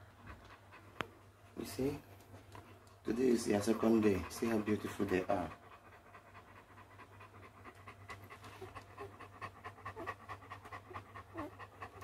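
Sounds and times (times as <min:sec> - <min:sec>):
dog panting quickly: 0:00.1 - 0:12.0.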